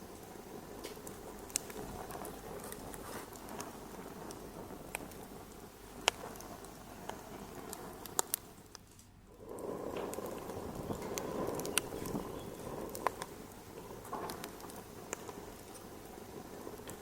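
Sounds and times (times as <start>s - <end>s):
hiss of burning: 0.0s - 17.0s
wood fire crackling: 0.0s - 17.0s.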